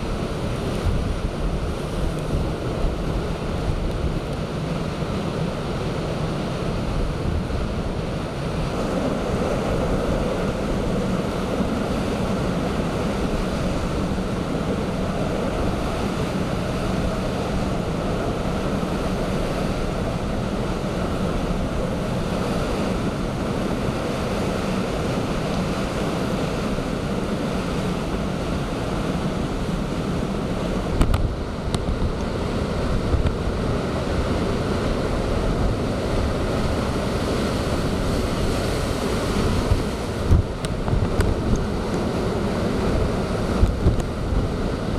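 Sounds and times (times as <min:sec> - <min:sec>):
heavy storm surf: 0:00.0 - 0:44.9
strong wind roaring: 0:00.0 - 0:44.9
wind buffeting microphone: 0:00.0 - 0:44.9.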